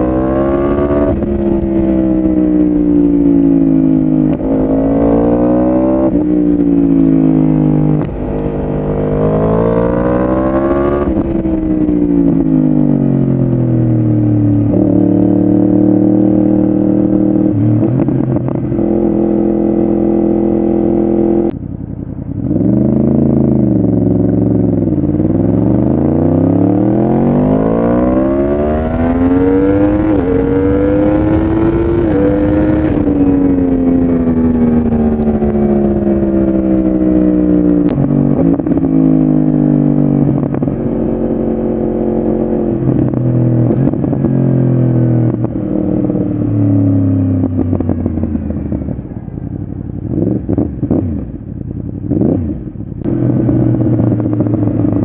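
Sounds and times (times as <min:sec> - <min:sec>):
motorcycle accelerating through gears: 0:00.0 - 0:55.0.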